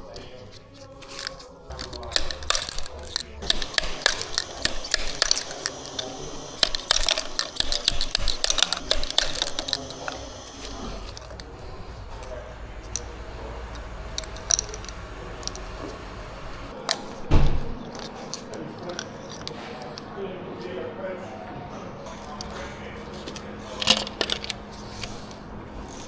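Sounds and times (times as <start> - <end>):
metal tools clicking and clinking: 0.0 - 20.7, 22.1 - 26.0.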